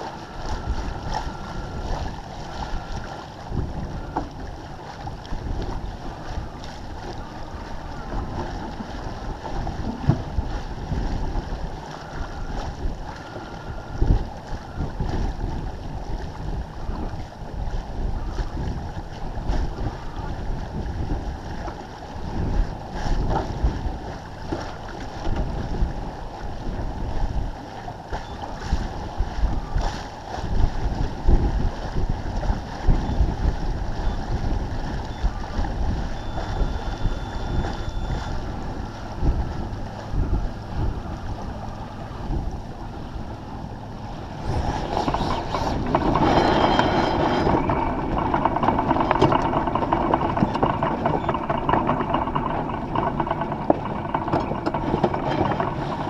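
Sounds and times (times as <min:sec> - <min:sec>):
water splashing along boat hull: 0:00.0 - 0:56.0
wind buffeting microphone: 0:00.0 - 0:56.0.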